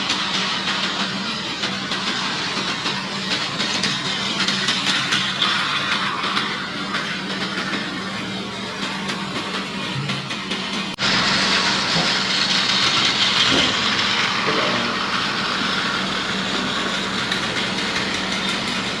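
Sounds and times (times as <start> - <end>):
toy train motor whirring: 0.0 - 9.9, 11.0 - 19.0.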